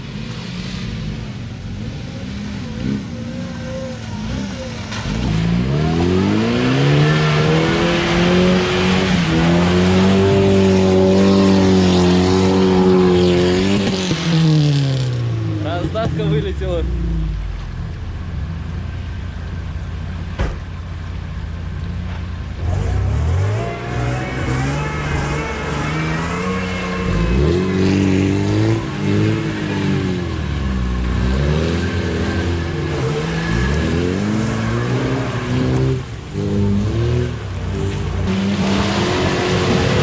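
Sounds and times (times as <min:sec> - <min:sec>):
off-road vehicle engine revving: 0:00.0 - 0:18.3, 0:22.1 - 0:40.0.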